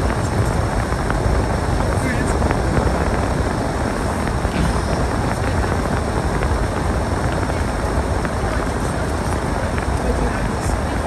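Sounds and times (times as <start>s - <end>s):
storm wind buffeting microphone: 0.0s - 11.0s.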